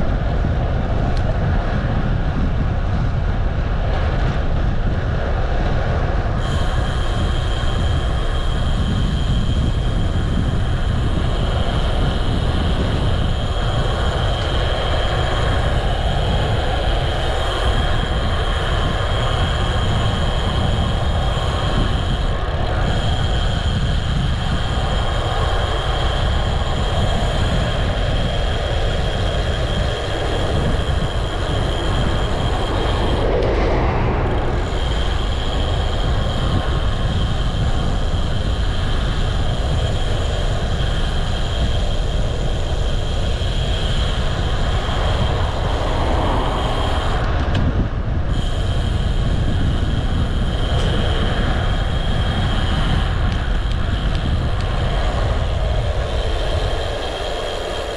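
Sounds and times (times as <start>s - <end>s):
high-pitched whine: 0.0s - 57.9s
wind buffeting microphone: 0.0s - 57.9s.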